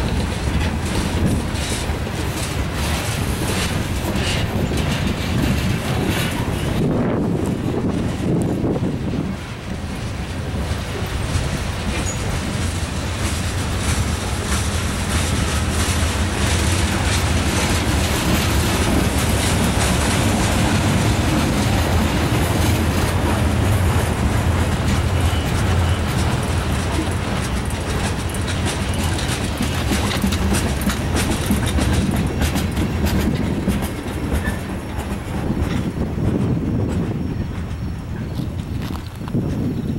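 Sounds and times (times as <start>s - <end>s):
rail clicks: 0.0s - 39.9s
train wheels rumbling on track: 0.0s - 39.9s.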